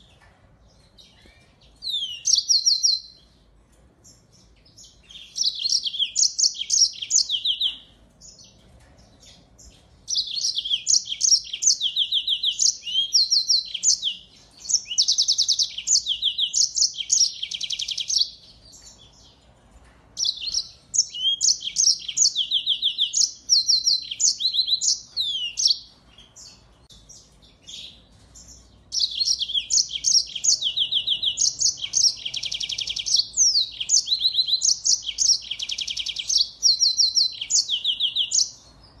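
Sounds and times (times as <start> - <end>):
finch trills and chirps: 0.0 - 19.5, 20.2 - 39.0.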